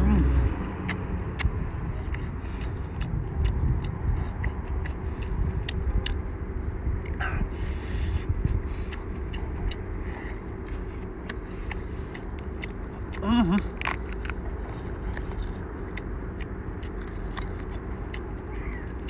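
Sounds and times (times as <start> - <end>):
low rumble: 0.0 - 19.0
chewing: 0.1 - 6.3, 7.0 - 19.0.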